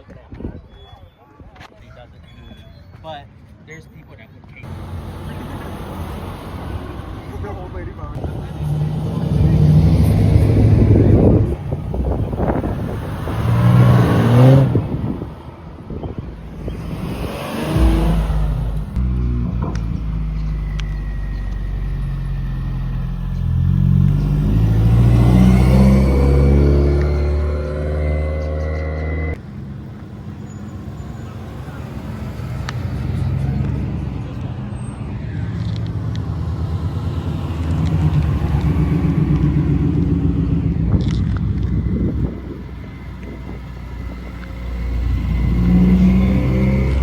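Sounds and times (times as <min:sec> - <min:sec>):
car engine running: 0:04.6 - 0:15.4, 0:16.2 - 0:34.0, 0:36.4 - 0:47.0.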